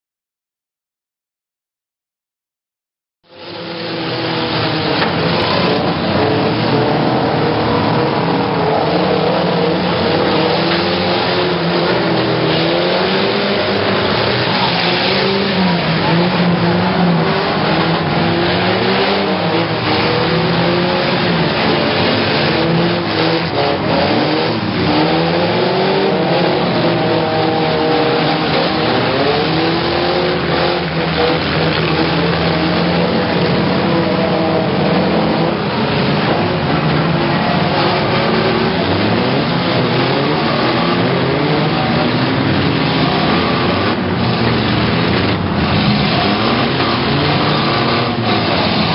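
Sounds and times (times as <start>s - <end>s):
truck engines revving: 3.2s - 48.9s
trucks colliding: 3.4s - 48.9s.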